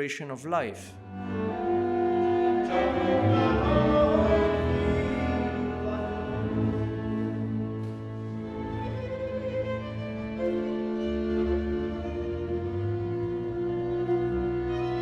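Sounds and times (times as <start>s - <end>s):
bowed string chords: 1.0s - 15.0s
double bass line: 1.0s - 15.0s
violin slow melody: 1.0s - 15.0s.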